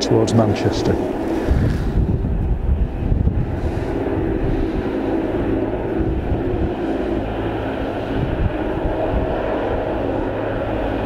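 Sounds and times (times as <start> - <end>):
distant passenger train running: 0.0 - 11.0
wind rumble on microphone: 0.0 - 11.0.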